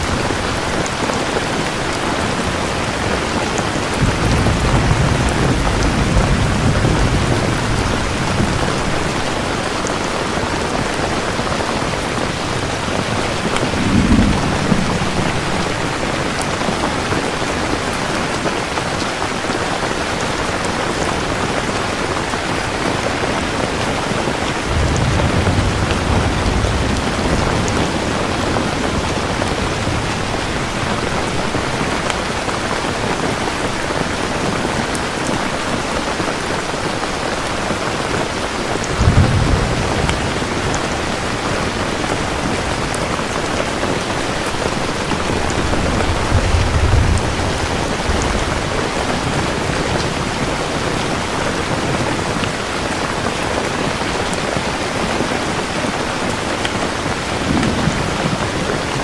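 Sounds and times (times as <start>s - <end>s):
thunder rumbling: 0.0s - 18.8s, 22.0s - 54.0s, 57.0s - 59.0s
heavy rain: 0.0s - 59.0s.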